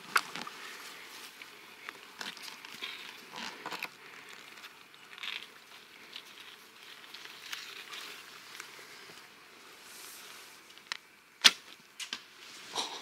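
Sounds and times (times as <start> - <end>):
dry grass rustling and crackling: 0.0 - 13.0.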